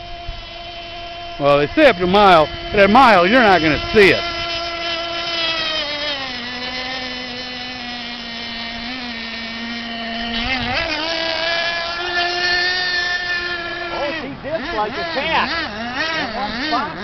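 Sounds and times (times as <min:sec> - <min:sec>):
model boat motor whining: 0:00.0 - 0:17.0.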